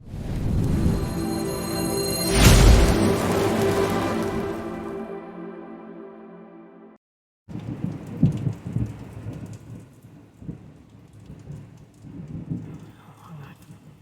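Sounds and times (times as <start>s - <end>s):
rain falling: 0.1s - 5.0s, 7.5s - 14.0s.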